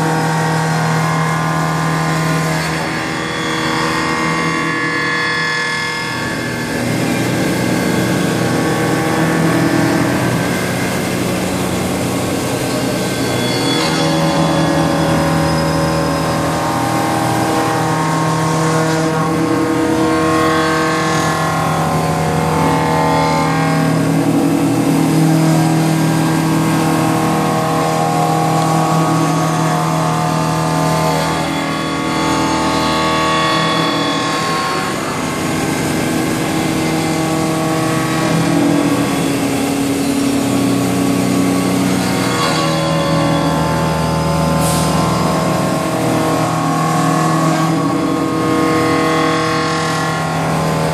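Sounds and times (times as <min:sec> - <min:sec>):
milling machine drone: 0:00.0 - 0:50.9.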